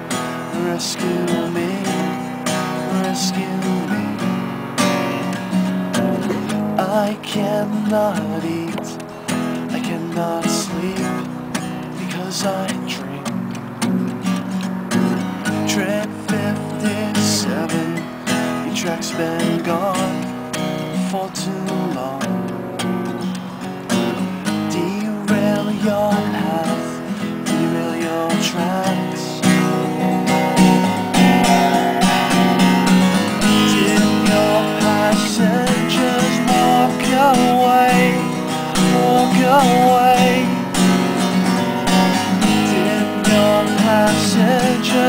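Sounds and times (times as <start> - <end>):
man singing: 0.0 - 4.5, 5.2 - 13.3, 15.4 - 22.6, 24.4 - 45.0
acoustic guitar strumming: 0.0 - 45.0.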